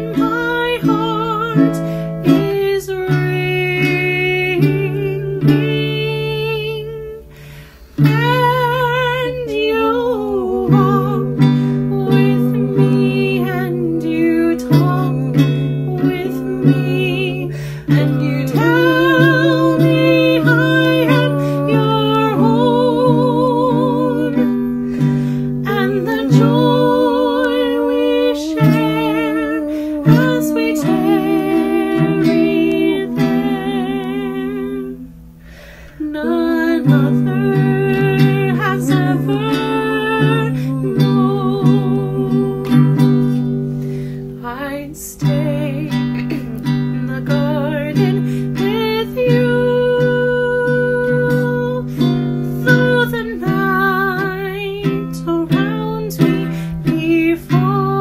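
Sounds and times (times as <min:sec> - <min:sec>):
ukulele plucked and strummed: 0:00.0 - 0:07.4, 0:08.0 - 0:35.3, 0:36.1 - 0:58.0
woman singing with vibrato: 0:00.0 - 0:58.0.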